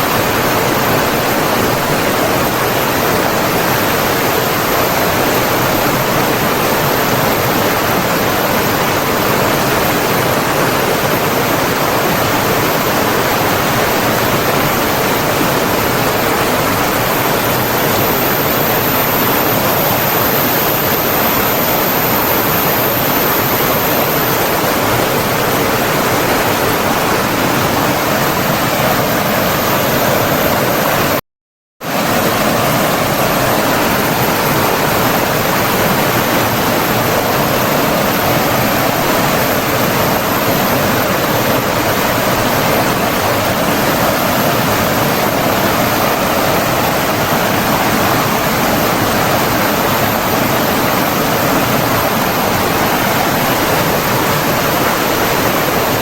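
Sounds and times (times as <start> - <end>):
stream water rushing: 0.1 - 31.2, 31.9 - 56.0.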